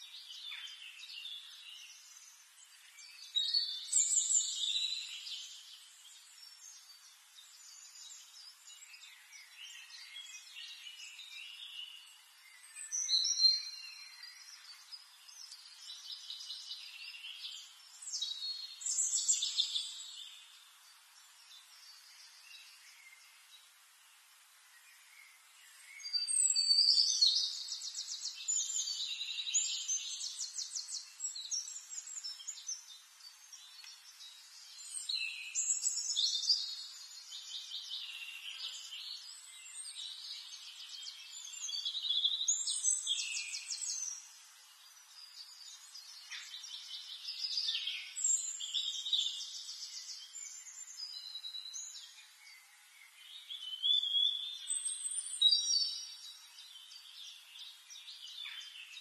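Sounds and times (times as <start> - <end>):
birds chirping and trilling: 0.1 - 59.0.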